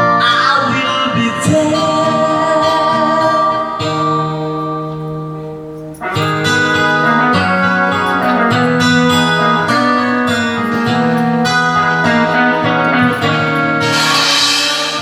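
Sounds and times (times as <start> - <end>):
slow love ballad with guitar: 0.0 - 15.0.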